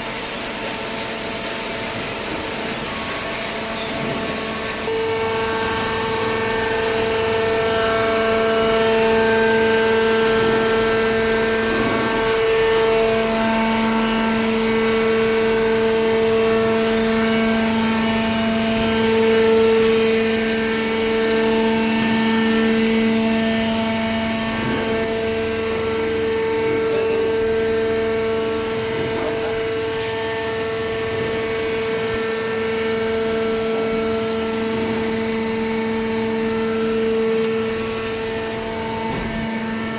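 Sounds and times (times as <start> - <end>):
baler machine humming: 0.0 - 39.9.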